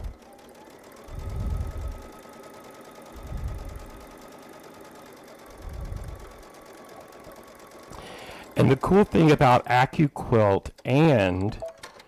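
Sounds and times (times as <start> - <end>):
sewing machine humming: 0.0 - 11.1.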